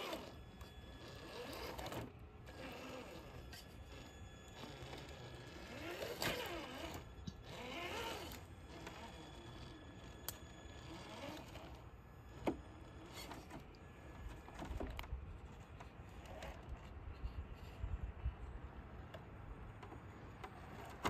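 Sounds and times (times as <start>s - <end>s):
toy car electric motor whirring: 0.0s - 17.9s, 19.8s - 21.0s.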